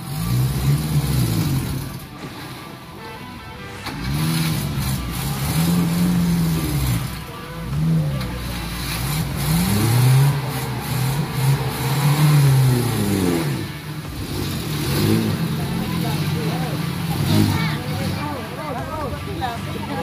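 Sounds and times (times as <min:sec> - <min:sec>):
car engine revving: 0:00.0 - 0:02.8, 0:03.8 - 0:20.0.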